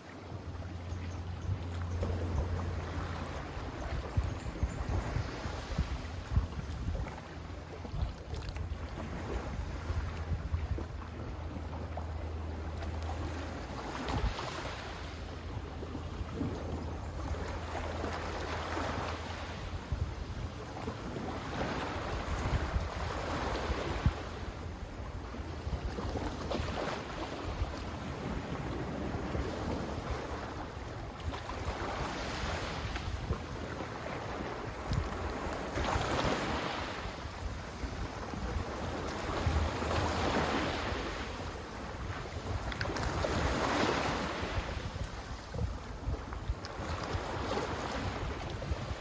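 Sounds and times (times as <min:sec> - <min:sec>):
low wind rumble on microphone: 0:00.0 - 0:49.0
sea waves washing in: 0:00.0 - 0:49.0.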